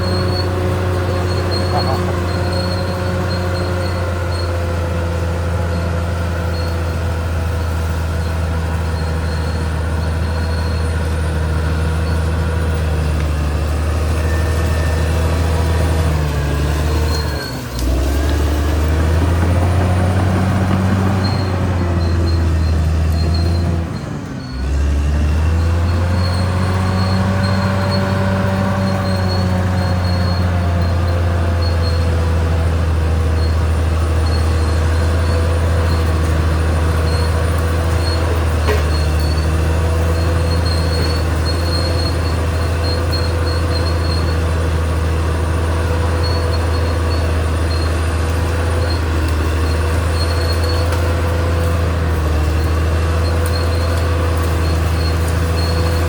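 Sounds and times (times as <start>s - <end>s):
faint high squeal: 0.0s - 19.0s, 21.2s - 56.0s
bulldozer diesel engine running: 0.0s - 56.0s.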